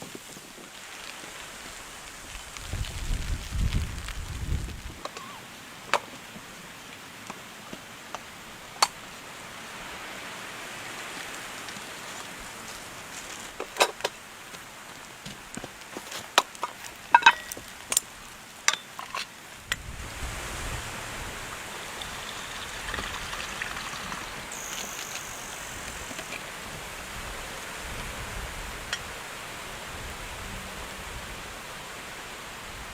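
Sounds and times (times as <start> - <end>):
rain hiss: 0.0 - 15.9, 16.8 - 32.9.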